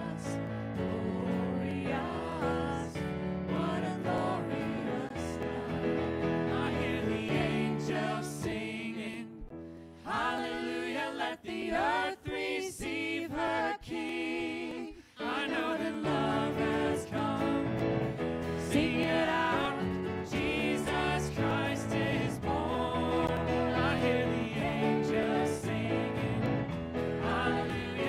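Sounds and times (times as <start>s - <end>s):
keyboard: 0.0s - 12.0s, 15.0s - 28.0s
group of voices singing: 0.0s - 28.0s.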